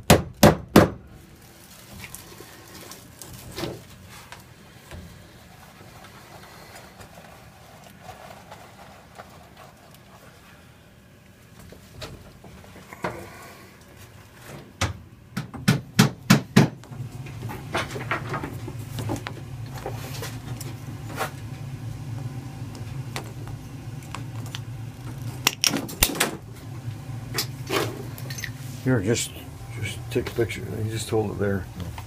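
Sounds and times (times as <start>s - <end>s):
steady low hum: 0.8s - 32.0s.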